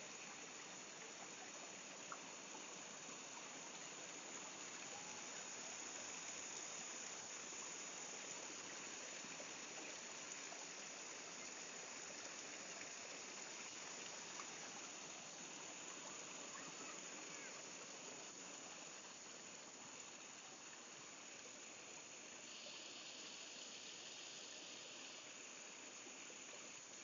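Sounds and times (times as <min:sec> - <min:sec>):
stream splashing over boulders: 0:00.0 - 0:27.0.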